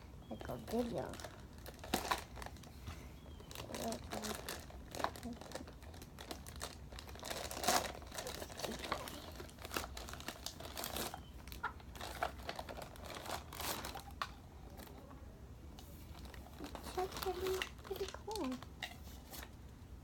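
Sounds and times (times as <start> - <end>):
packaging crinkling: 0.4 - 15.0, 16.0 - 19.5.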